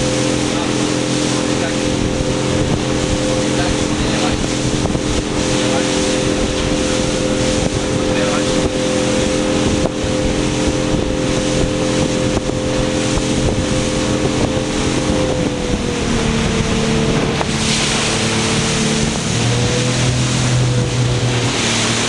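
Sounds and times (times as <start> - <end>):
motorboat engine running: 0.0 - 22.0
rush of water: 0.0 - 22.0
wind on microphone: 0.0 - 22.0.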